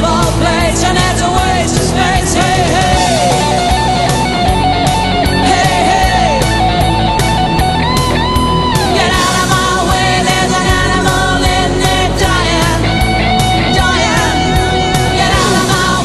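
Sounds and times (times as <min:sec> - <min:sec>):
rock song with electric guitar: 0:00.0 - 0:16.0.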